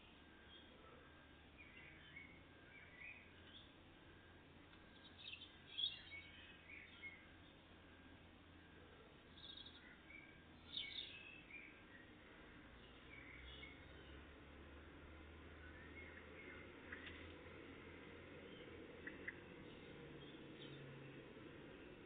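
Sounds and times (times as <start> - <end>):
birds chirping: 0.0 - 22.0
low background hum: 0.0 - 22.0.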